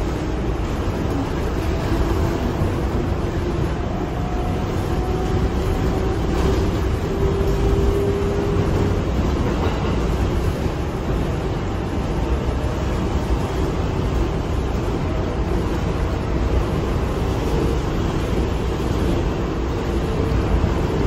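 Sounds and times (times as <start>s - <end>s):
subway car rumble on track: 0.0s - 21.0s.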